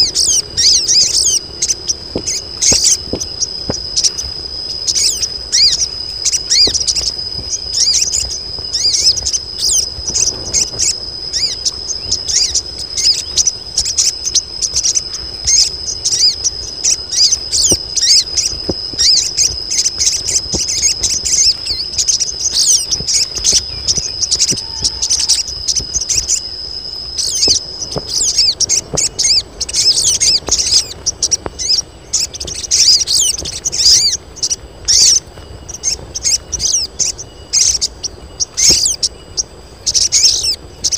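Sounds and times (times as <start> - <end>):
birds chirping and twittering: 0.0 - 40.9
high insect-like whine: 0.0 - 40.9.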